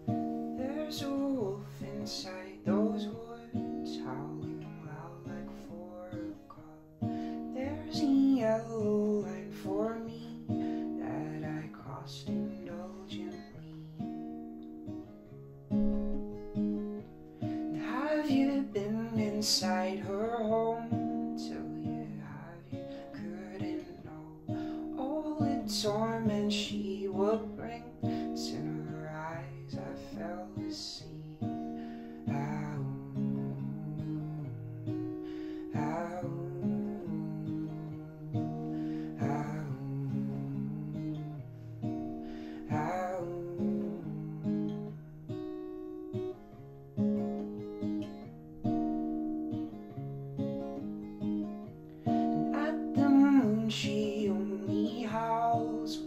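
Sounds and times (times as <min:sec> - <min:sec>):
man singing: 0:00.0 - 0:14.2, 0:17.6 - 0:45.0, 0:52.1 - 0:56.0
acoustic guitar: 0:00.0 - 0:56.0.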